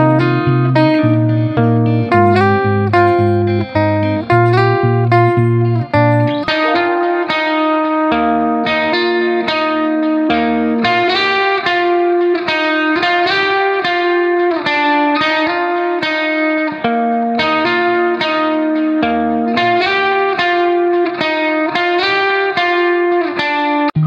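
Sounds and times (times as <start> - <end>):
plucked melody music: 0.0 - 24.0.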